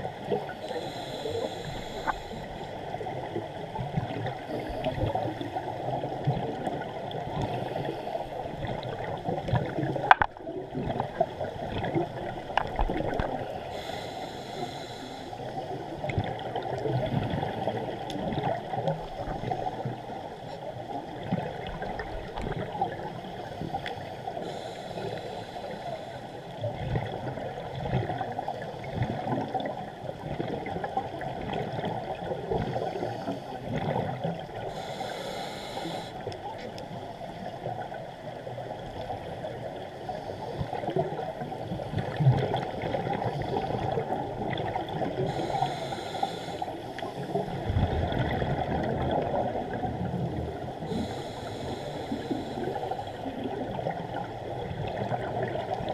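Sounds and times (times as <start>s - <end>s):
scuba regulator bubbling: 0.0s - 36.9s, 40.0s - 55.9s
muffled underwater rush: 0.0s - 55.9s.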